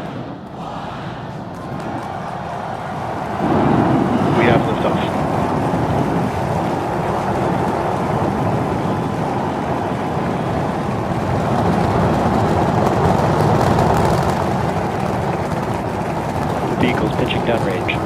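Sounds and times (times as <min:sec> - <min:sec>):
loud rocket engine roar: 0:00.0 - 0:18.0
rocket engine crackle: 0:00.0 - 0:18.0.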